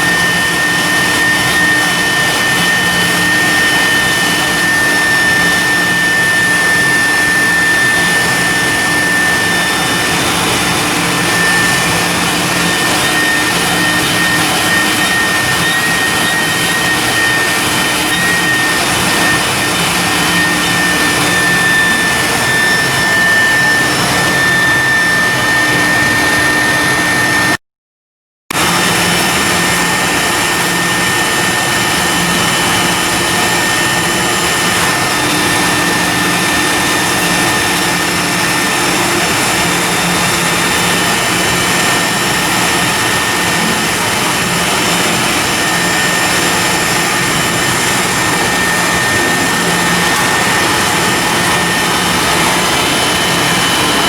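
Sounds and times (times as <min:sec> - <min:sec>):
diesel machinery roaring: 0:00.0 - 0:27.6, 0:28.5 - 0:54.0
high-pitched whine: 0:00.0 - 0:27.6, 0:28.5 - 0:54.0.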